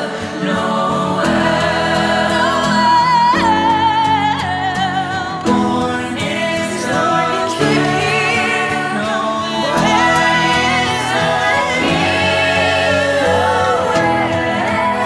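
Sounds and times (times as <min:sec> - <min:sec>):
choir singing held notes: 0:00.0 - 0:15.0
sustained accompaniment chords: 0:00.2 - 0:15.0.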